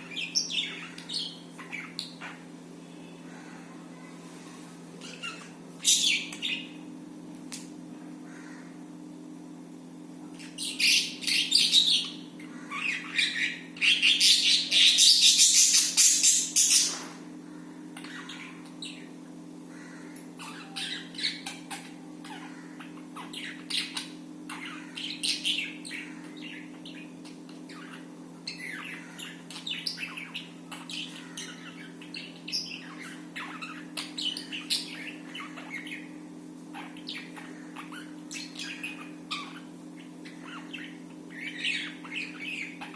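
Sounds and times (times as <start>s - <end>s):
budgies chirping and squawking: 0.0s - 2.5s, 5.0s - 6.8s, 10.4s - 17.2s, 18.0s - 42.9s
steady low hum: 0.0s - 42.9s.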